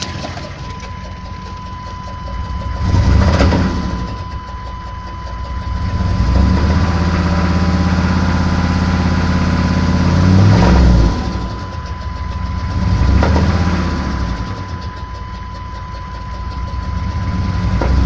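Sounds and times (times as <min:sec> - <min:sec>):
diesel engine revving: 0:00.0 - 0:18.0
engine knocking: 0:00.0 - 0:18.0.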